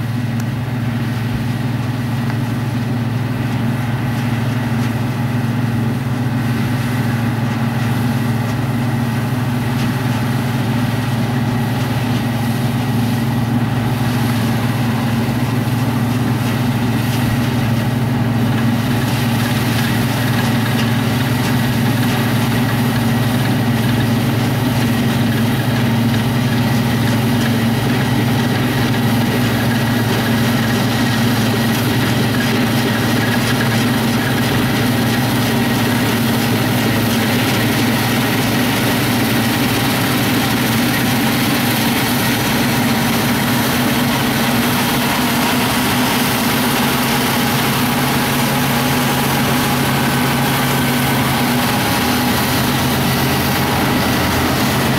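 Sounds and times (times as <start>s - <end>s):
combine harvester machinery drone: 0.0s - 54.9s.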